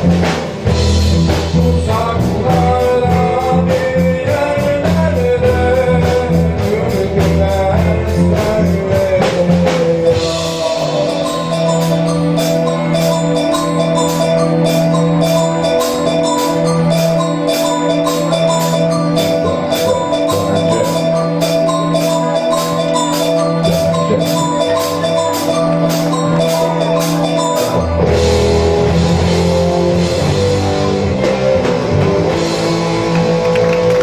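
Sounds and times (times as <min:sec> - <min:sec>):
ticking cymbal beat: 0:00.0 - 0:33.4
rock band playing: 0:00.0 - 0:34.0.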